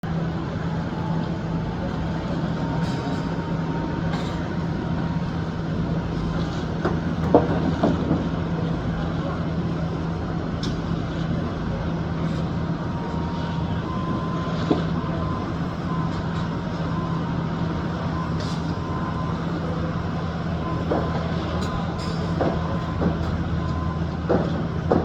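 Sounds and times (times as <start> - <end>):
construction machinery engine drone: 0.0 - 25.0.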